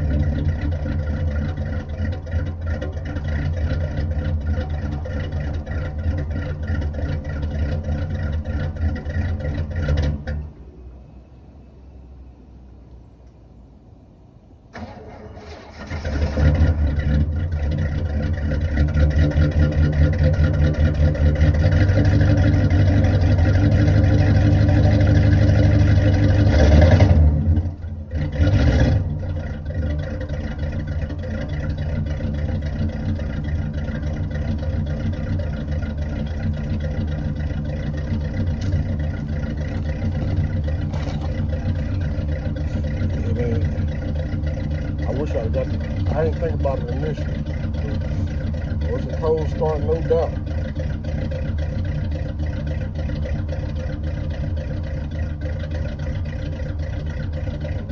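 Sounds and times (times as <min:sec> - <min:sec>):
starter cranking: 0:00.0 - 0:10.5, 0:14.8 - 0:57.9
car engine running unevenly: 0:00.0 - 0:11.5, 0:14.8 - 0:57.9.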